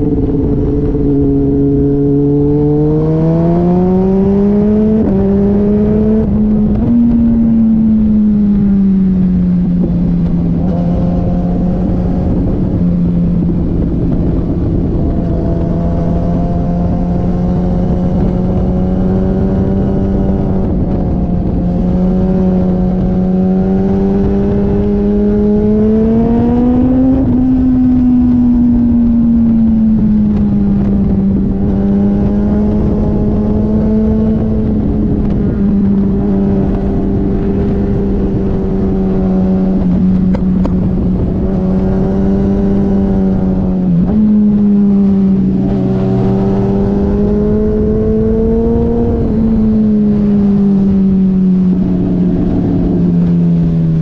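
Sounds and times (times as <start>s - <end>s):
motorcycle engine at high revs: 0.0s - 54.0s
wind noise rushing: 0.0s - 54.0s.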